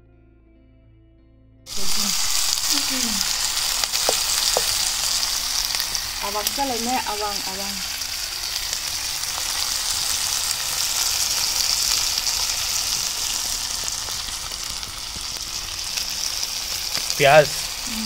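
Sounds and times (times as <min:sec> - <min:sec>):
onions sizzling in a wok: 0:01.7 - 0:18.0.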